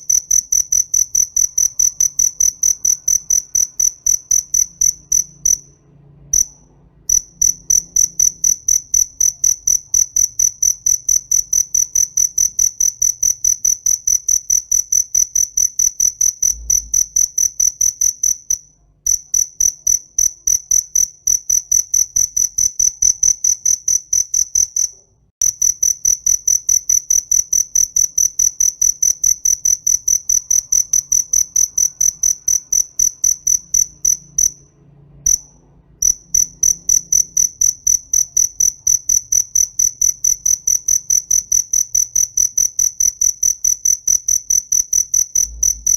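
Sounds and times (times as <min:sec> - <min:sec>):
cricket chirping: 0:00.0 - 0:45.9.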